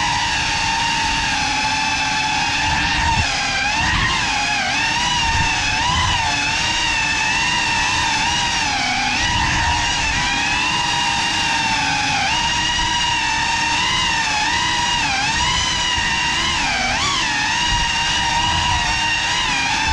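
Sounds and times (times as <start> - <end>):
drone motors whining: 0.0 - 19.9.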